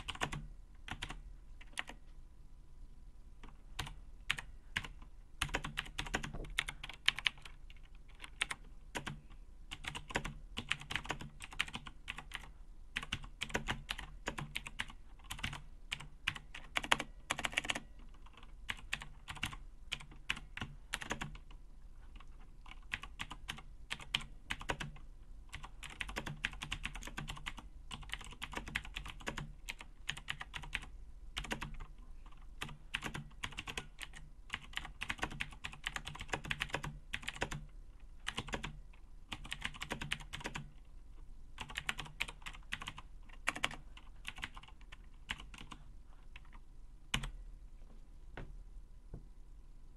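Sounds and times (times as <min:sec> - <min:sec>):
mechanical keyboard typing: 0:00.0 - 0:02.0, 0:03.4 - 0:21.6, 0:22.2 - 0:40.8, 0:41.6 - 0:45.8.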